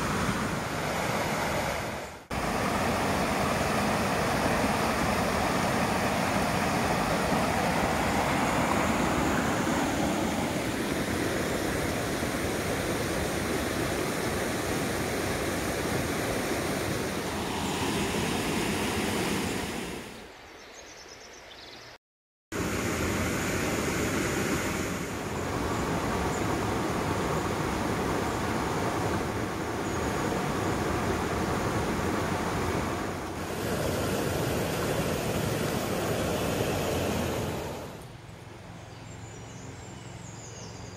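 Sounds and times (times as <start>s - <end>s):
stream rushing over rocks: 0.0s - 20.2s, 22.6s - 38.2s.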